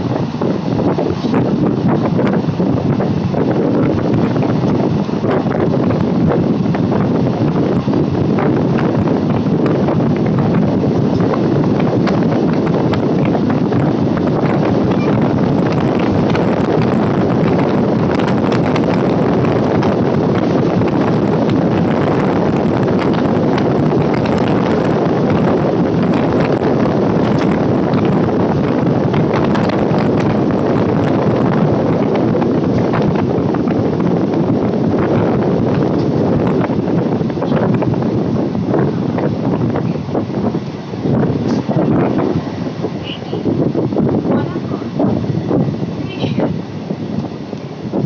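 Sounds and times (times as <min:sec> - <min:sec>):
train running at speed: 0:00.0 - 0:48.0
wind buffeting microphone: 0:00.0 - 0:48.0.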